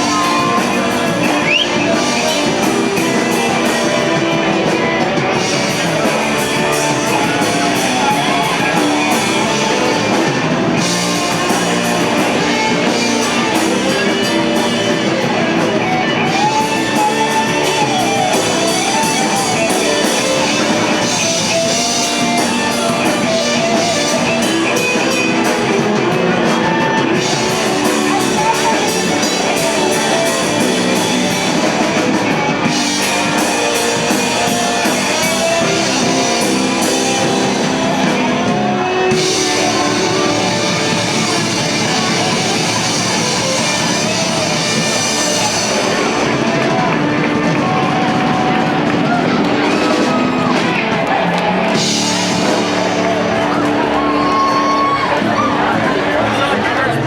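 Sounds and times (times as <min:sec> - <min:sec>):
amplified electric guitar: 0:00.0 - 0:57.0
drum kit: 0:00.0 - 0:57.0.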